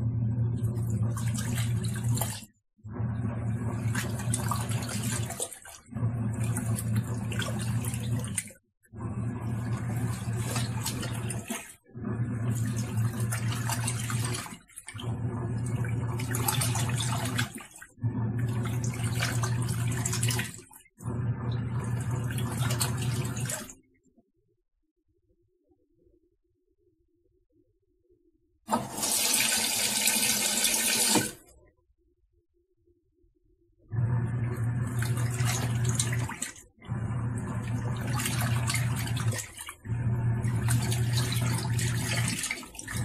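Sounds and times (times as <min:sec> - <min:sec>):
washing machine motor churning water: 0:00.0 - 0:23.9, 0:28.7 - 0:31.6, 0:33.8 - 0:43.0.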